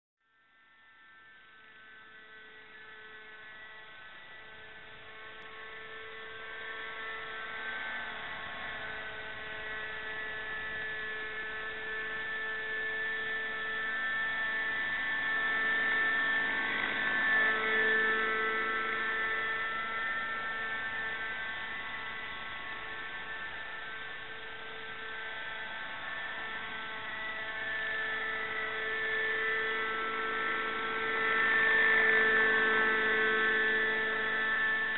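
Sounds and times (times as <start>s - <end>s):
model helicopter engine whine: 0.2s - 34.9s.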